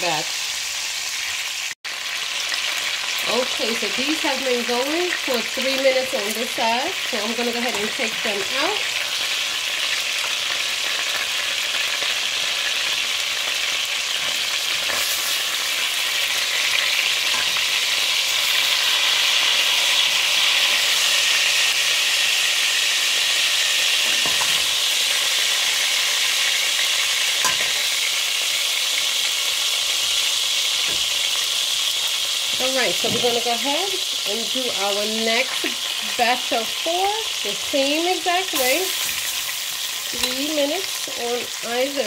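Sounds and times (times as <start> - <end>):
chicken sizzling in oil: 0.0 - 42.0.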